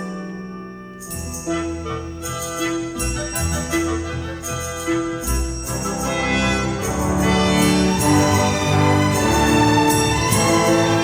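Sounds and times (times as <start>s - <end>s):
orchestral strings and brass: 1.8s - 11.0s.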